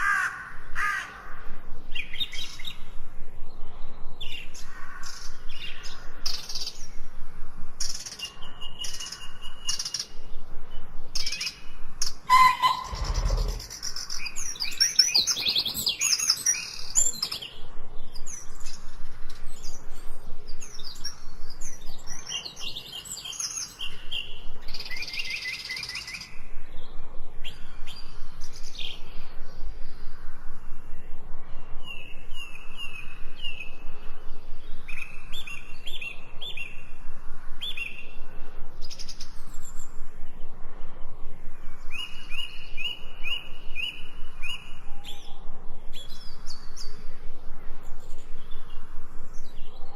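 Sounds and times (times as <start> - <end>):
songbirds chirping and singing: 0.0 - 49.9.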